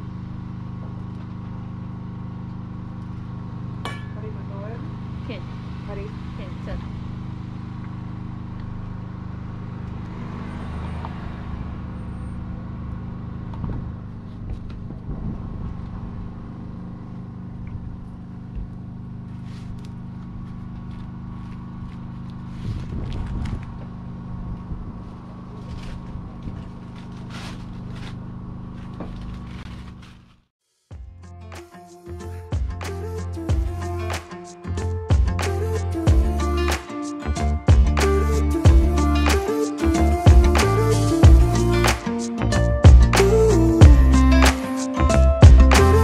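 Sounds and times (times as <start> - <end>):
engine hum: 0.0 - 46.0.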